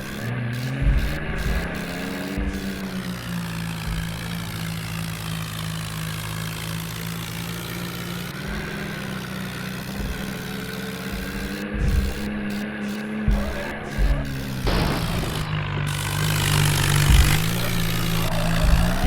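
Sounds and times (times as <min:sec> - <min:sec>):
low thumps: 0:00.0 - 0:19.0
tractor diesel engine running: 0:00.0 - 0:19.0.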